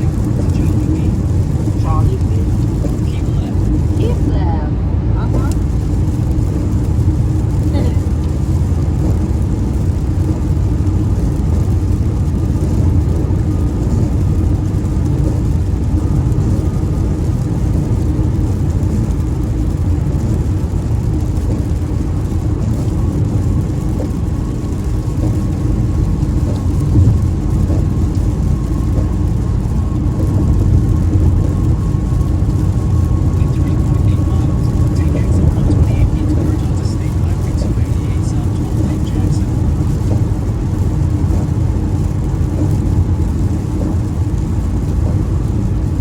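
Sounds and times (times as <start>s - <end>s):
road and engine noise inside car: 0.0s - 46.0s.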